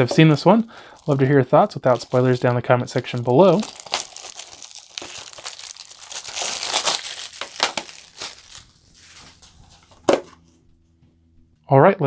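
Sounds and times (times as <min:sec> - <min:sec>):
plastic shrink wrap crinkling: 0:00.0 - 0:10.4.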